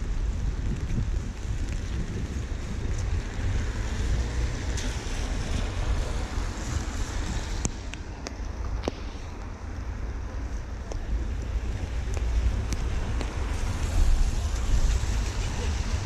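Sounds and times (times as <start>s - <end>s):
street noise: 0.0s - 16.0s
wind buffeting microphone: 0.0s - 16.0s
rain hiss: 0.1s - 16.0s.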